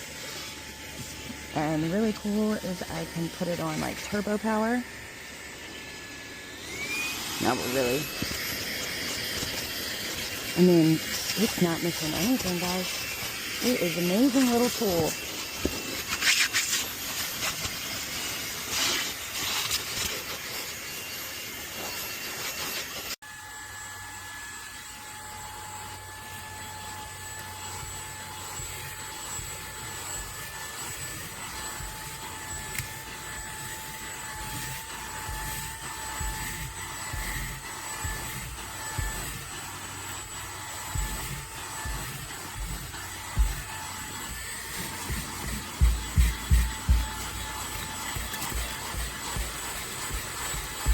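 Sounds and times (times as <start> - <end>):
handheld vacuum running: 0.0 - 50.9.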